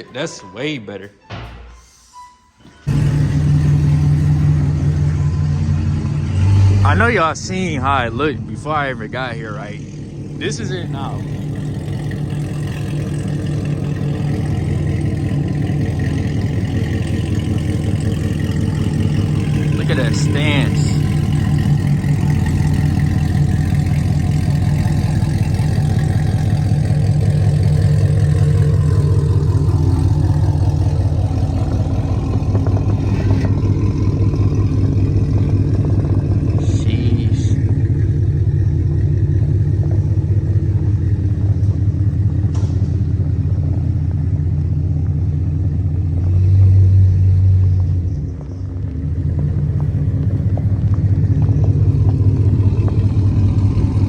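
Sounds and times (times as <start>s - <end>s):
car engine running: 2.8s - 54.0s.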